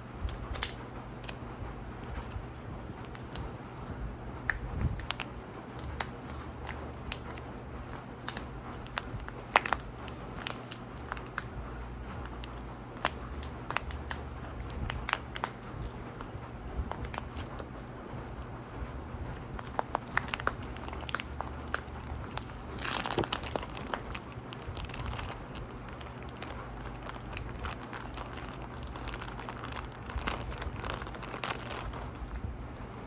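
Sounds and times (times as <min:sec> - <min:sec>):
steady low hum: 0:00.0 - 0:33.0
packaging crinkling: 0:00.3 - 0:33.0.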